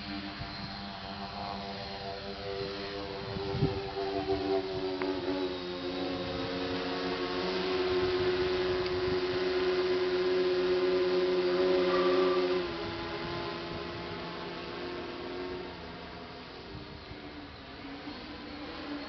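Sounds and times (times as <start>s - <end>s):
model aircraft motor humming: 0.0s - 19.0s.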